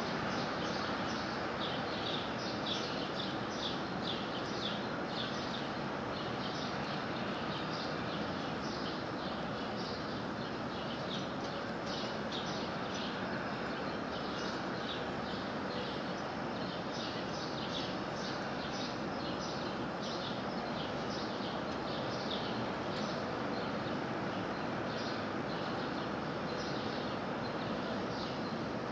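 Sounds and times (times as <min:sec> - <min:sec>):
small birds chirping: 0:00.0 - 0:28.9
steady background hiss: 0:00.0 - 0:28.9.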